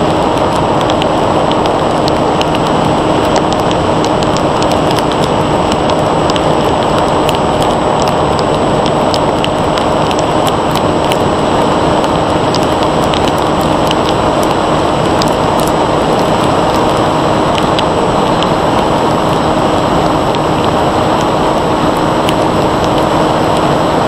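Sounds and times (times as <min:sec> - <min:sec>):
electric motor and propeller hum: 0:00.0 - 0:24.0
loud wind rush: 0:00.0 - 0:24.0
rain ticking on airframe: 0:00.0 - 0:24.0.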